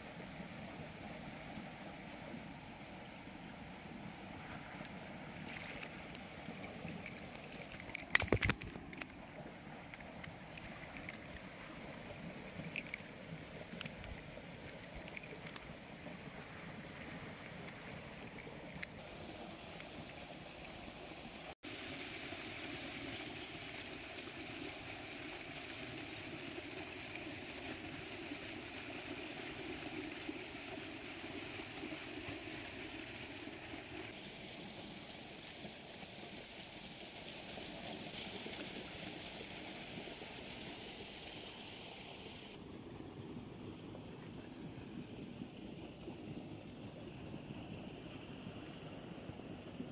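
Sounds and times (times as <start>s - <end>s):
fast-flowing water rushing: 0.0s - 42.6s.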